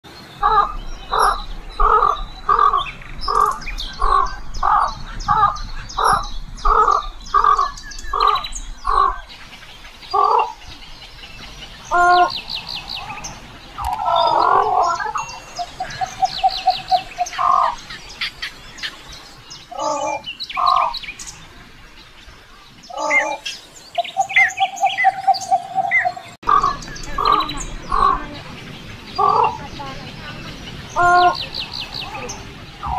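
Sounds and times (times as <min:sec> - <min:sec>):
small birds chirping: 0:00.1 - 0:32.9
large bird calling loudly: 0:00.4 - 0:21.2, 0:22.8 - 0:32.9.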